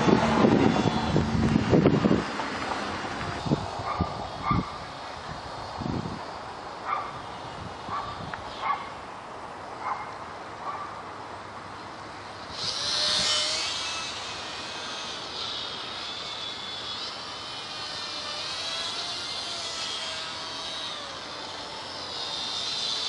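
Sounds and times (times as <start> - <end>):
model plane motor whine: 0.0 - 9.0, 11.8 - 23.0.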